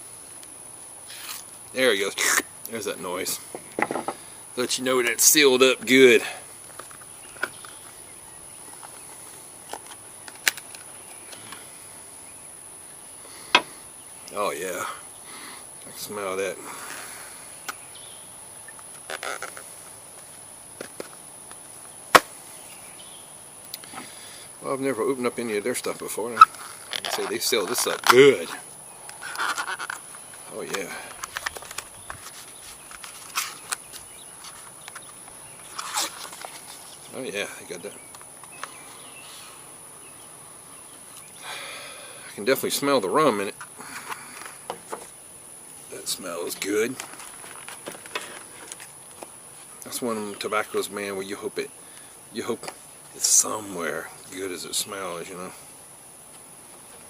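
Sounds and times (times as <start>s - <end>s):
high insect chirring: 0.0s - 57.0s.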